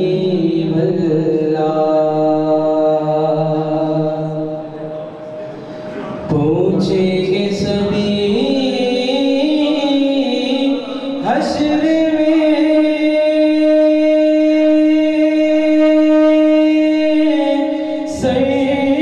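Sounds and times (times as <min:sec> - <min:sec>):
man singing into a microphone: 0:00.0 - 0:05.0, 0:06.0 - 0:19.0.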